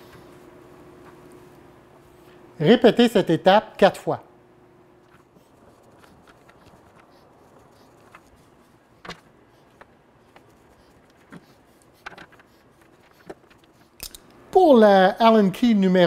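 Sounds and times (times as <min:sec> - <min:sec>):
faint room hiss: 0:00.0 - 0:06.1, 0:06.8 - 0:16.0.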